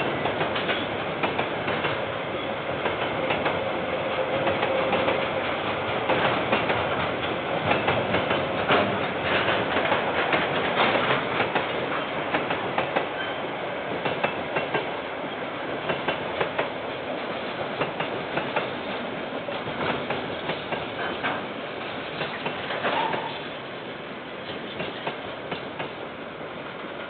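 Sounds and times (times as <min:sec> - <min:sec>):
train wheels clicking over rail joints: 0:00.0 - 0:02.1, 0:02.7 - 0:16.8, 0:17.6 - 0:23.5, 0:24.4 - 0:26.0
train rumble: 0:00.0 - 0:27.0.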